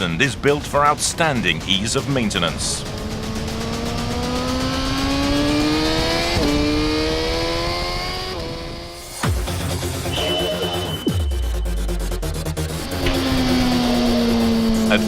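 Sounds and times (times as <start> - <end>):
motorcycle engine accelerating: 0.8 - 15.0.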